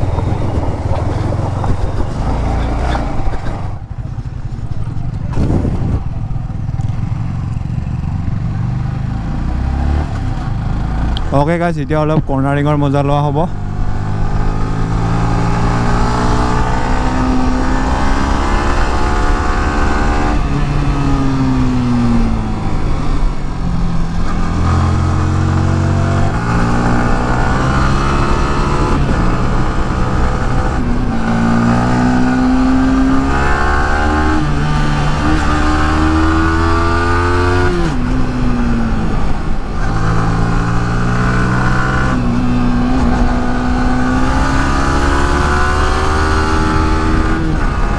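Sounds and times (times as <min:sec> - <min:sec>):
motorcycle engine revving: 0:00.0 - 0:11.4, 0:12.9 - 0:47.9.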